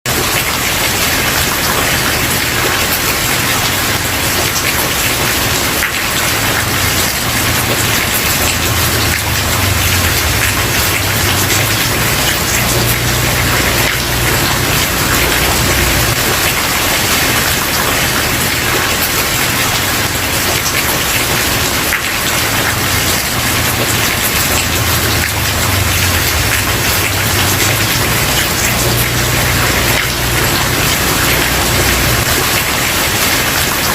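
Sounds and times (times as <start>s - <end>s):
heavy rain on a wooden porch: 0.1s - 33.9s.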